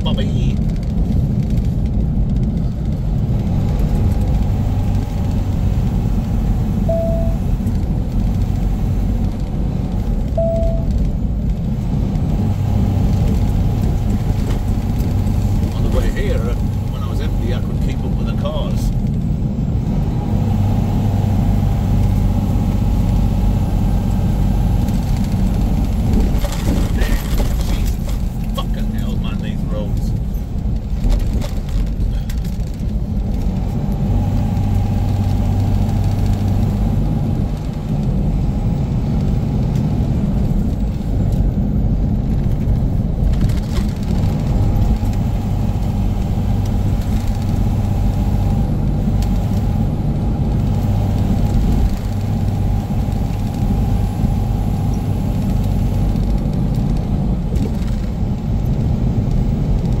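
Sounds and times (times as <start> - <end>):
road noise: 0.0 - 60.0
truck diesel engine droning: 0.0 - 60.0.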